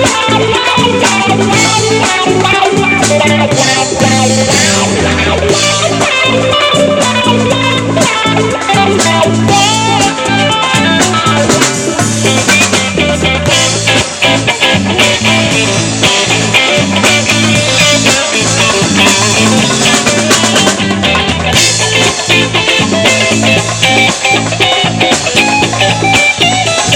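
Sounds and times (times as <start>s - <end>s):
bass guitar: 0.0s - 26.9s
drum kit: 0.0s - 26.9s
electric guitar: 0.0s - 26.9s.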